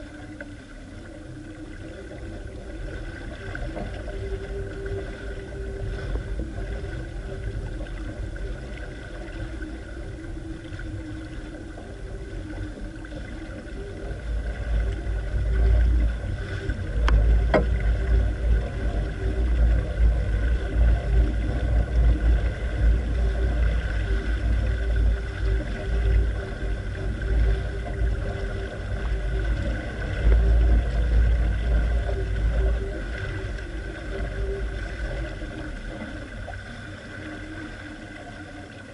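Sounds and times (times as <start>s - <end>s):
steady hum: 0.0s - 38.9s
water splashing along hull: 0.0s - 38.9s.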